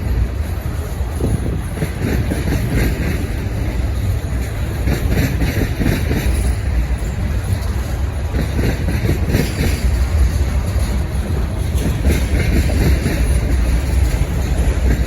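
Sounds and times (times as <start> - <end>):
train wheels rumbling on rail: 0.0 - 15.0
wheels clattering over track: 0.0 - 15.0.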